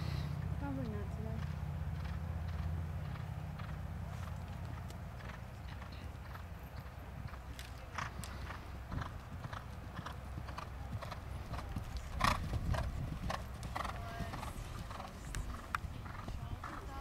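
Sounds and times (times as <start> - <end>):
horse hoofbeats on sand: 1.4 - 17.0.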